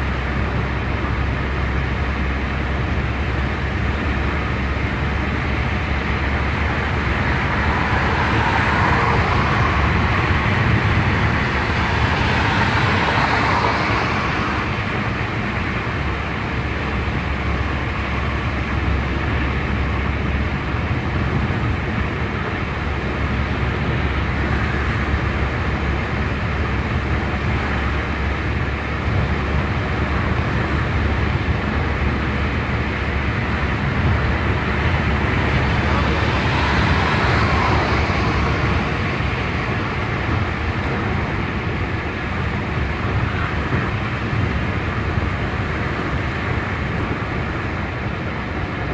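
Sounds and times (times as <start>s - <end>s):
car engine and tyre noise: 0.0s - 48.9s.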